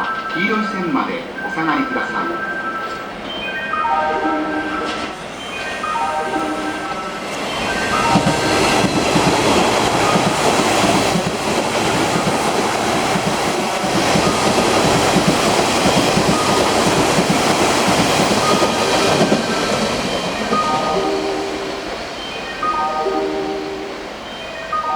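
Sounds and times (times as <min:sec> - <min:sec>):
electric train passing at speed: 0:00.0 - 0:24.9.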